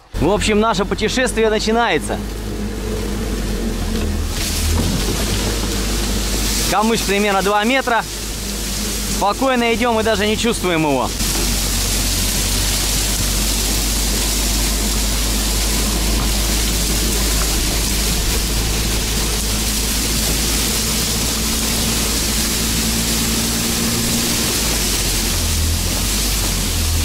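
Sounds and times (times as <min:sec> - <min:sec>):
atv engine running: 0:00.0 - 0:27.0
reeds brushing against machine: 0:00.1 - 0:27.0.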